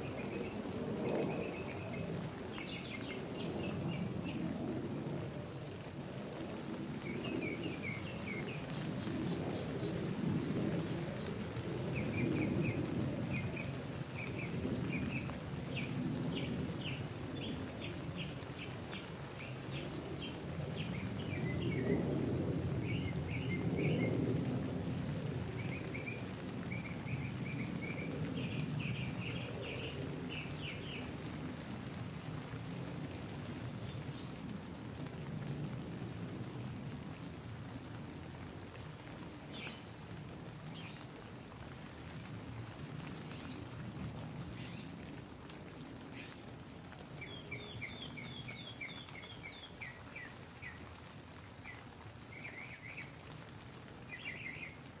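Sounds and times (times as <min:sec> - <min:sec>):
rain on a nylon tent: 0:00.0 - 0:55.0.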